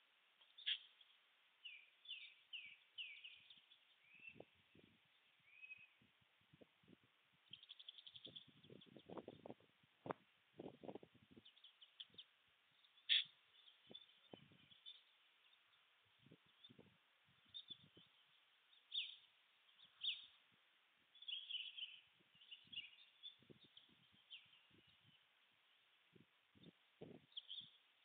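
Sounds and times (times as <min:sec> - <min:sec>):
small birds chirping and trilling: 0:00.4 - 0:06.1, 0:06.9 - 0:09.7, 0:10.6 - 0:28.0.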